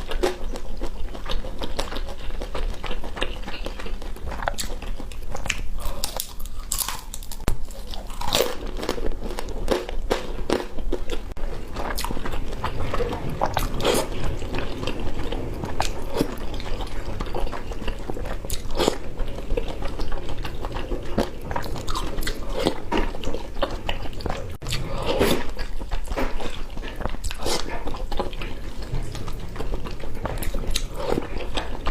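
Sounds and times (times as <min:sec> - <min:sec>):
person chewing close up: 0:00.0 - 0:31.9.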